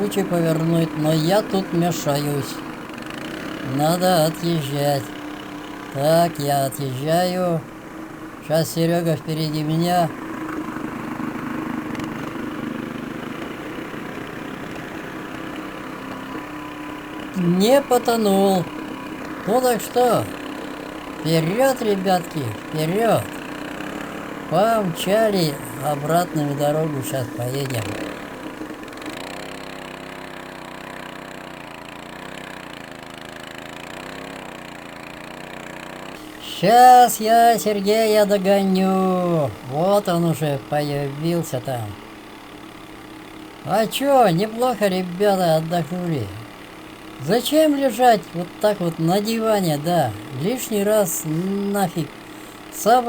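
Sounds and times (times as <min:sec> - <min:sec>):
walk-behind tractor engine running: 0:00.0 - 0:53.0.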